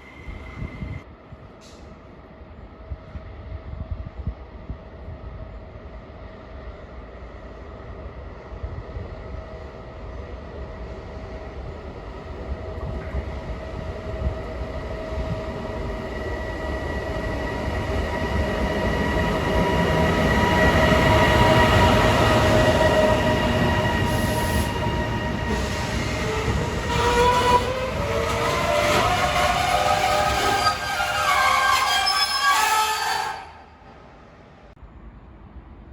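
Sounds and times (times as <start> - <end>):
electric train passing: 0.0 - 35.8.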